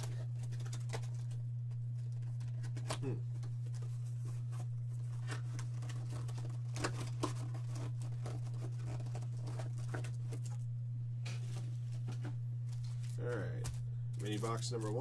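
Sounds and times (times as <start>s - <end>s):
plastic wrap tearing and crinkling: 0.0s - 10.7s, 11.4s - 15.0s
steady low hum: 0.0s - 15.0s.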